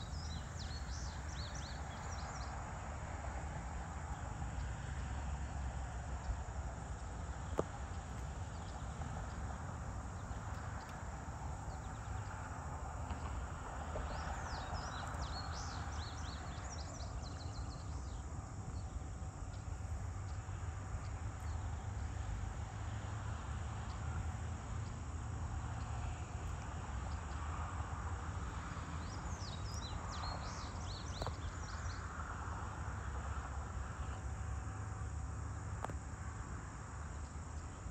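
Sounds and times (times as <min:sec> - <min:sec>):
faint insect chorus: 0:00.0 - 0:37.9.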